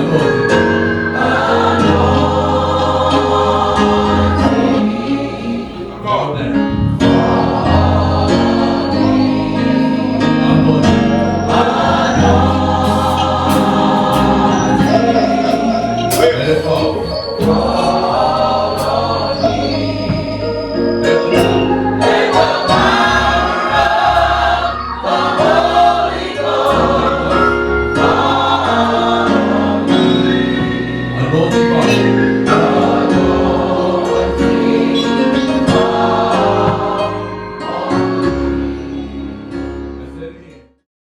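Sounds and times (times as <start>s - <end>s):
band accompaniment: 0.0s - 40.3s
gospel choir singing: 0.0s - 40.6s.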